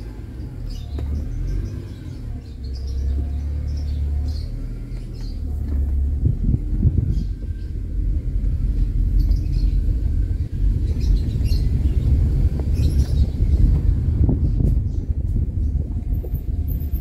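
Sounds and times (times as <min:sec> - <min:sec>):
car engine hum: 0:00.0 - 0:17.0
tyre and road noise: 0:00.0 - 0:17.0.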